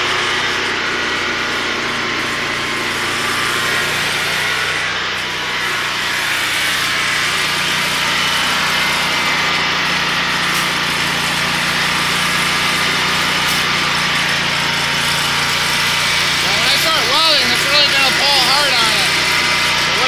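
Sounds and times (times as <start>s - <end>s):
generator engine droning: 0.0s - 20.0s.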